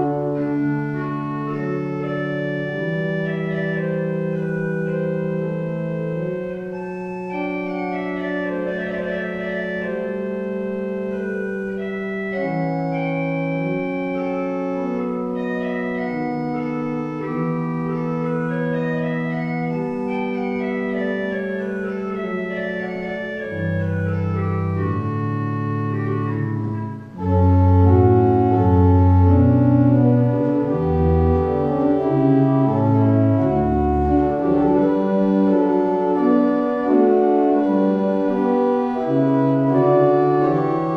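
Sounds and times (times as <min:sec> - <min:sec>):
church organ playing chords: 0:00.0 - 0:40.9.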